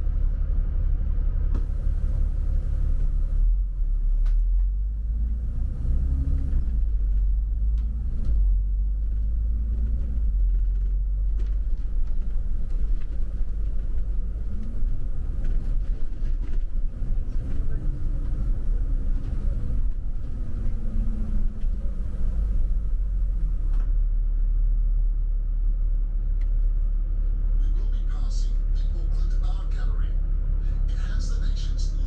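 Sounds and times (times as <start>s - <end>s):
bus engine rumbling: 0.0s - 32.0s.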